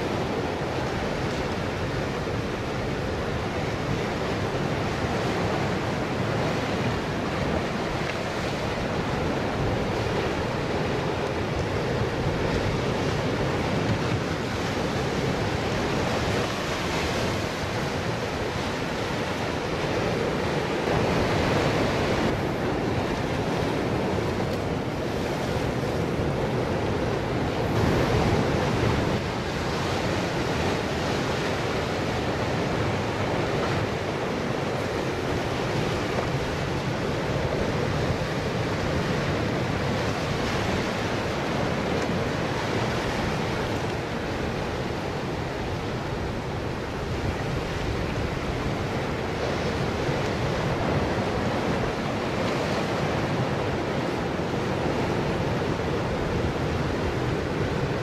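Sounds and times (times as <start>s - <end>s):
ocean surf breaking on rocks: 0.0s - 58.0s.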